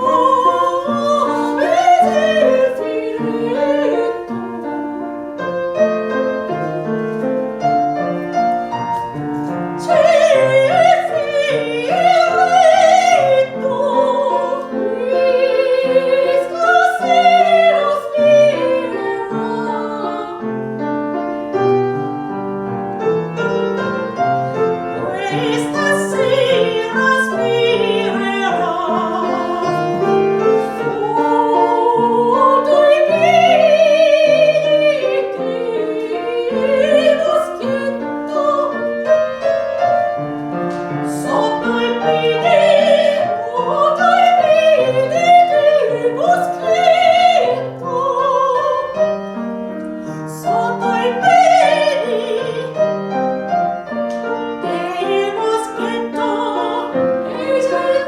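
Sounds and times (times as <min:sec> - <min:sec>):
soprano singing with vibrato: 0:00.0 - 0:05.1, 0:08.1 - 0:21.1, 0:23.7 - 0:39.6, 0:40.2 - 0:58.0
piano accompaniment: 0:00.0 - 0:58.0.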